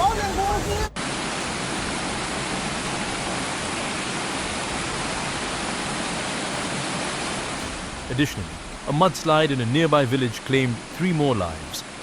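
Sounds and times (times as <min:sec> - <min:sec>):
fast-flowing floodwater roar: 0:00.0 - 0:12.0.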